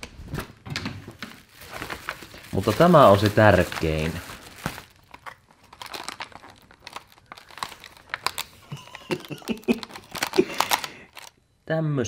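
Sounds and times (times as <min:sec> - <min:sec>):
bubble wrap and mailer crinkling: 0:01.0 - 0:11.3.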